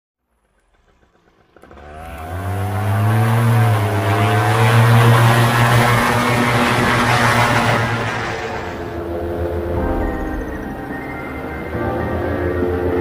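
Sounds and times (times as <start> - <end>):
paramotor engine and propeller running: 0.2 - 13.0.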